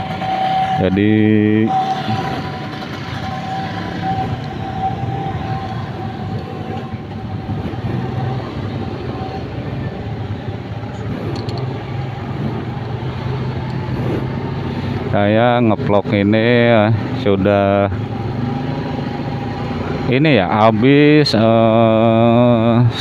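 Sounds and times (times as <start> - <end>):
scooter engine idling: 0.0 - 23.0
street traffic noise: 0.0 - 23.0.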